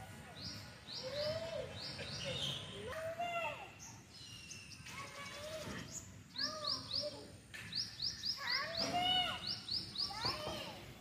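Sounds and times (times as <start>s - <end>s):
children's sing-song calls: 0.0s - 7.4s, 8.0s - 11.0s
birds chirping: 0.0s - 11.0s.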